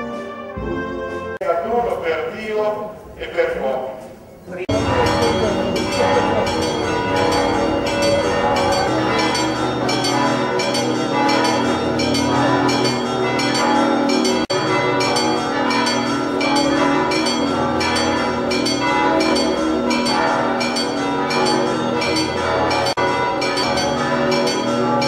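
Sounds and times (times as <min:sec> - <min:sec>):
church bells pealing: 0:01.4 - 0:25.0.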